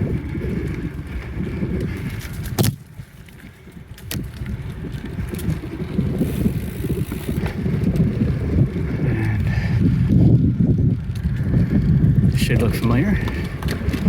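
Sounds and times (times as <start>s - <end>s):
bicycle tyre noise: 0.0s - 14.0s
wind rumbling on microphone: 0.0s - 14.0s.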